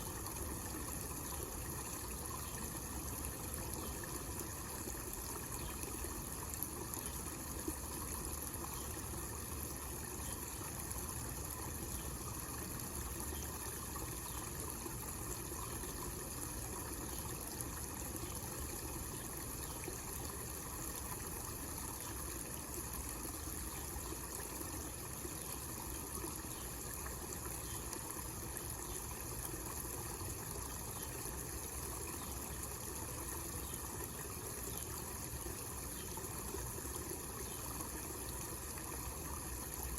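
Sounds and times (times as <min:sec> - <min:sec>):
water trickling into basin: 0:00.0 - 0:39.9.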